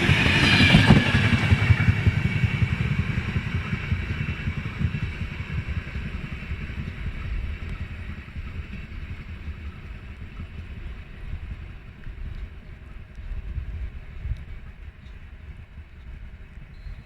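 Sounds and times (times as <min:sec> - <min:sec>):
train rumbling past: 0:00.0 - 0:15.7.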